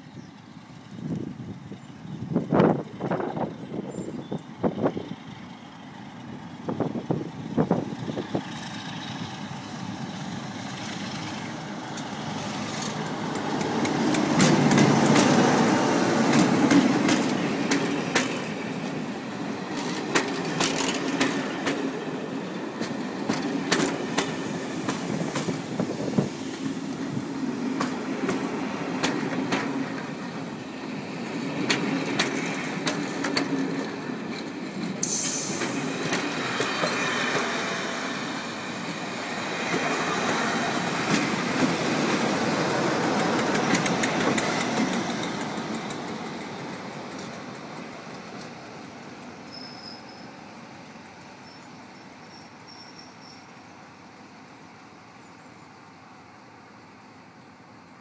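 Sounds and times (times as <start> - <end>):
diesel locomotive passing: 0.0 - 58.0
train wheels clicking over rail joints: 4.3 - 53.5.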